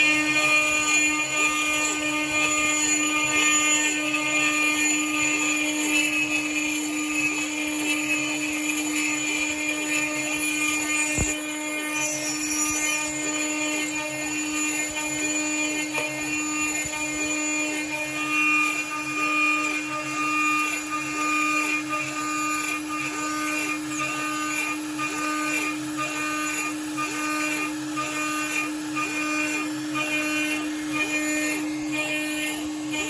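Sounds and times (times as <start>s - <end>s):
milling machine spindle running: 0.0s - 33.0s.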